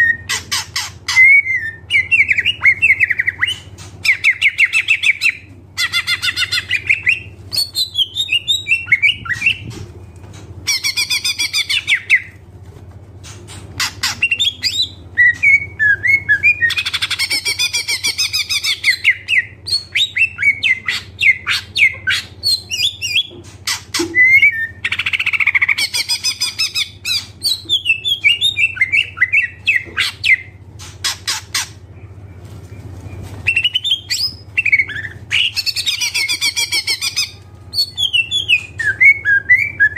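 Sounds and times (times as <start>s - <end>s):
bird singing trills and chatters: 0.0s - 9.8s, 10.6s - 12.4s, 13.2s - 39.9s.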